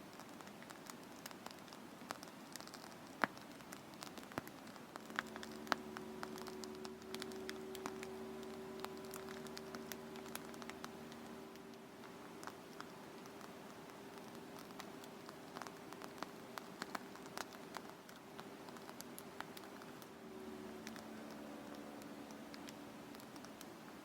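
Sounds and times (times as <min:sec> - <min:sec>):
steady low hum: 0:00.0 - 0:24.0
shaving foam bubbles popping: 0:00.1 - 0:23.7.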